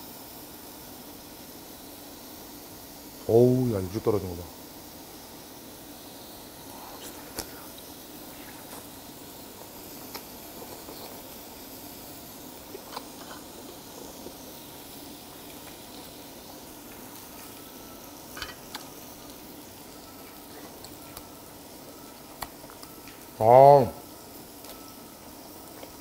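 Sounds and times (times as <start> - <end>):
meat sizzling on grill: 0.0 - 26.0.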